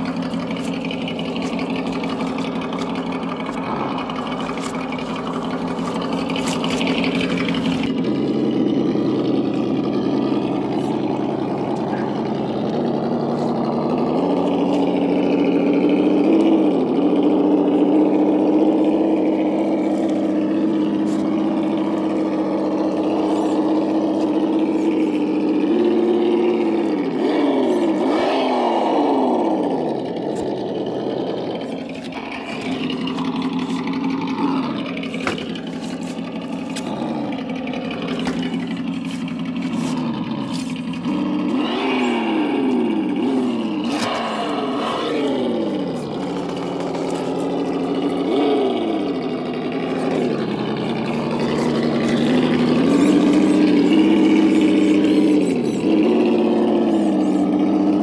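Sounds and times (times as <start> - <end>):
simulated engine sound from speaker: 0.0 - 58.0.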